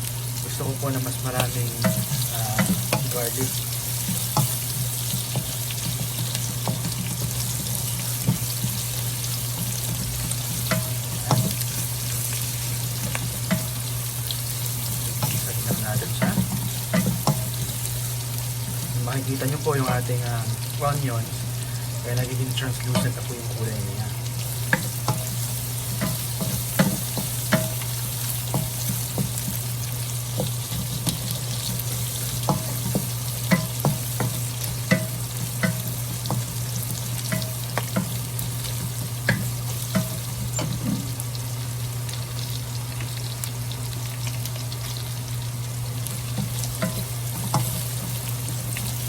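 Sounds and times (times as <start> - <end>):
steady low hum: 0.0 - 41.8
onions sizzling in a pan: 0.0 - 49.0.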